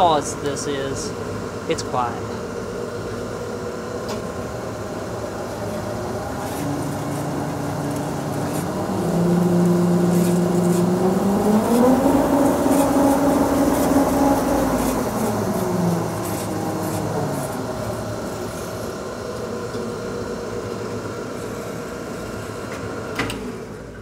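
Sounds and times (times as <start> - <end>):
band saw machine hum: 0.0 - 23.0
hum rising and falling in pitch: 2.5 - 22.6.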